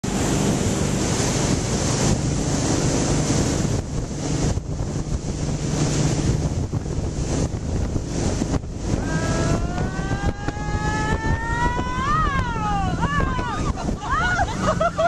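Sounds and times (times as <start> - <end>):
boat engine humming: 0.0 - 15.0
water rushing in boat wake: 0.0 - 15.0
wind buffeting microphone: 0.0 - 15.0.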